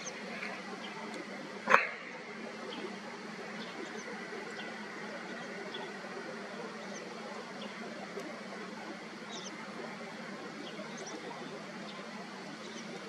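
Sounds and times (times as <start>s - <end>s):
faint background noise: 0.0s - 13.0s
small birds chirping: 0.0s - 13.0s.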